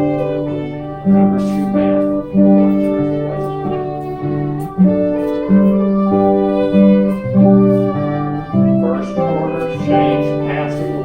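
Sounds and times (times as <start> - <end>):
acoustic folk band playing: 0.0 - 11.0
fiddle melody: 0.0 - 11.0.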